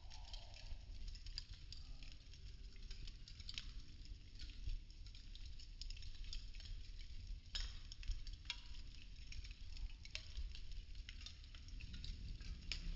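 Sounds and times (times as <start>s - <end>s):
burning wood crackling: 0.0s - 12.9s.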